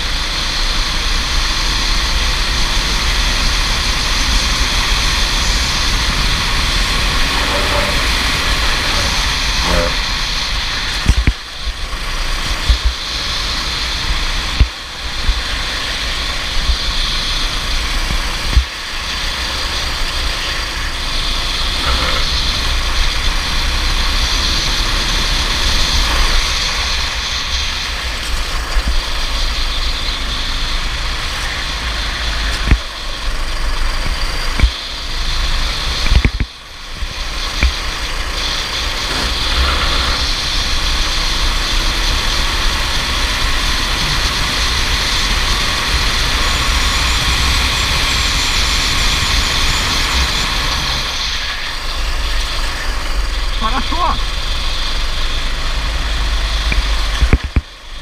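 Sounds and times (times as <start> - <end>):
kart engine running: 0.0 - 58.0
wind rumble on microphone: 0.0 - 58.0.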